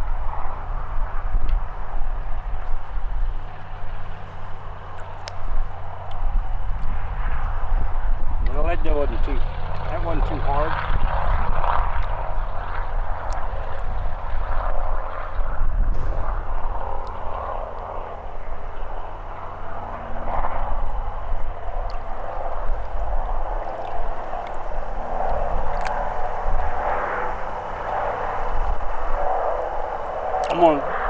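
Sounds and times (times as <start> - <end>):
continuous rushing noise: 0.0 - 31.0
low engine-like drone: 0.0 - 31.0.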